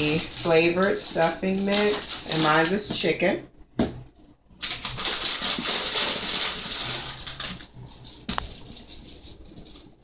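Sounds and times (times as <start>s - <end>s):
crumbs rustling in plastic bag: 0.0s - 3.0s, 4.6s - 10.0s.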